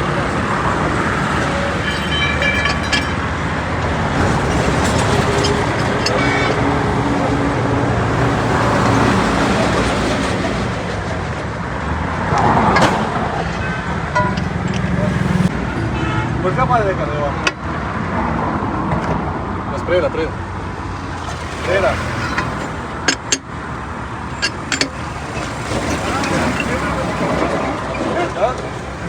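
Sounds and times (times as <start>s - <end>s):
highway traffic passing: 0.0s - 29.0s.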